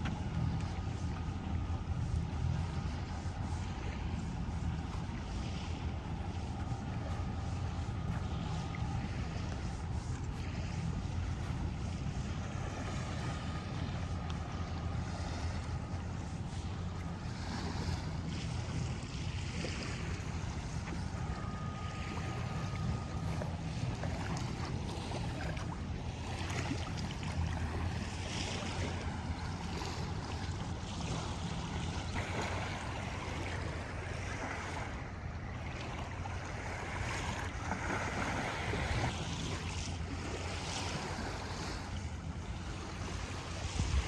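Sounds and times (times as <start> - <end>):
water washing along shore: 0.0 - 44.0
wind on microphone: 0.0 - 44.0.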